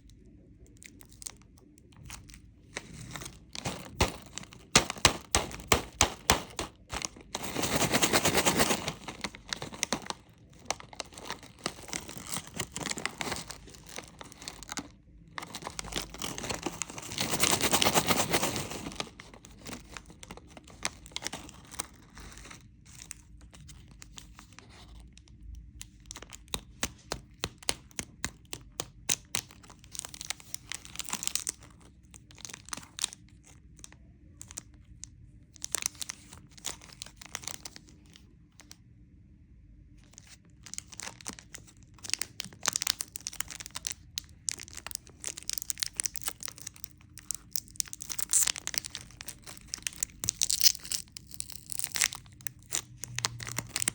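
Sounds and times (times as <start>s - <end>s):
wrapper tearing: 0.8s - 25.2s, 25.9s - 34.7s, 35.6s - 38.7s, 40.1s - 53.9s
wrappers crinkling: 0.8s - 34.7s, 35.6s - 38.8s, 40.0s - 53.9s.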